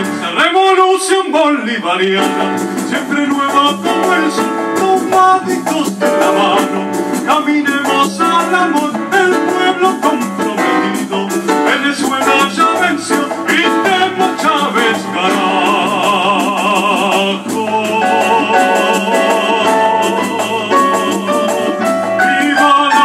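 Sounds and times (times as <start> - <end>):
latin american song: 0.0 - 23.0
rhythmic percussion: 0.0 - 23.0.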